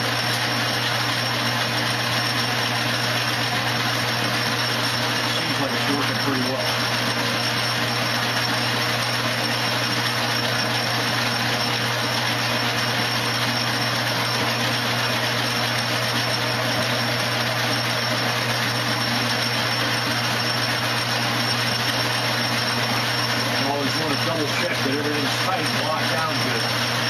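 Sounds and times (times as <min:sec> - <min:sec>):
lathe humming: 0:00.0 - 0:27.0.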